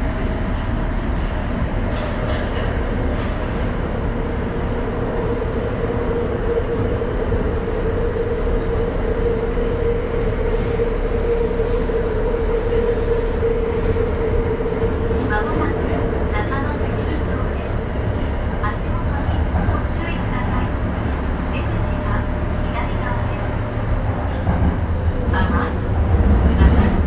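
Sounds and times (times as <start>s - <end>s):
subway wheels rumbling on rail: 0.0s - 27.0s.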